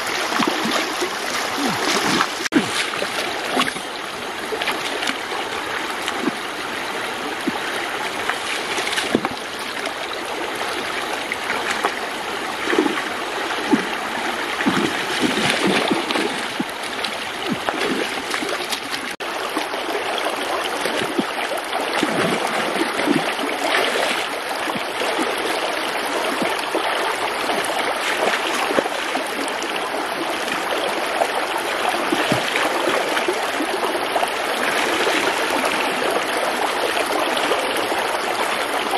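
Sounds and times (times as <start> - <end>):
splashes of wading in water: 0.0 - 38.9
stream running over rocks: 0.0 - 38.9.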